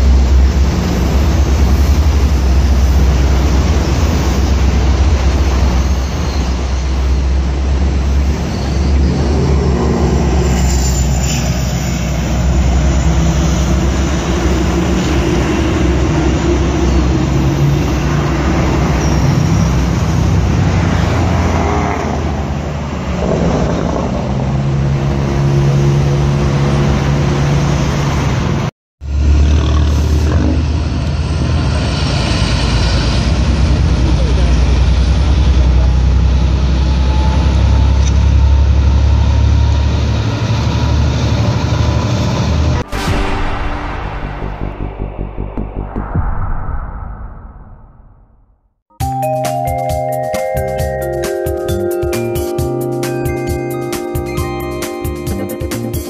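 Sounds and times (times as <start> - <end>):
train rolling: 0.0 - 45.9
diesel locomotive drone: 0.0 - 56.0.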